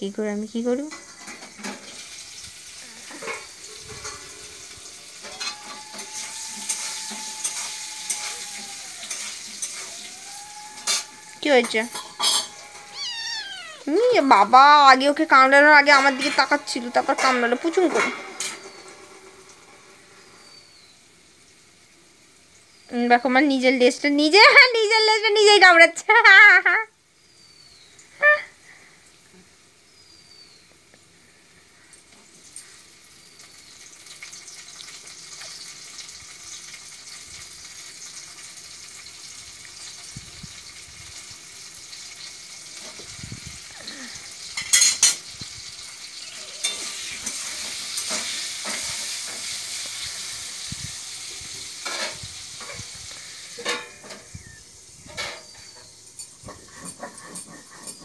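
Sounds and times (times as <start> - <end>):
steady sizzling hiss: 0.0 - 58.0.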